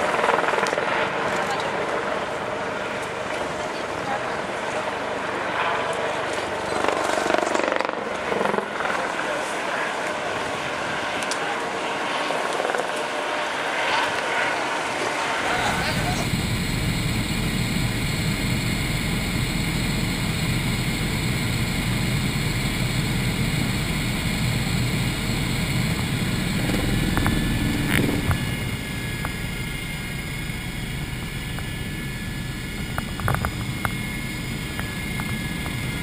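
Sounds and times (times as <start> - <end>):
helicopter engine and rotors: 0.0 - 36.0.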